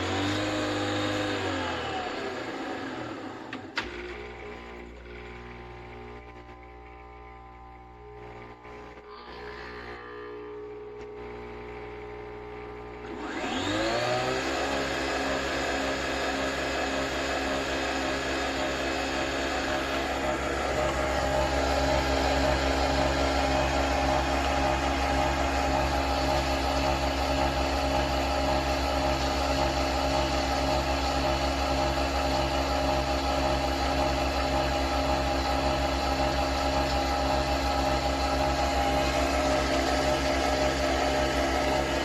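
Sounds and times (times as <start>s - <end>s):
coffee machine humming and whirring: 0.0s - 42.0s.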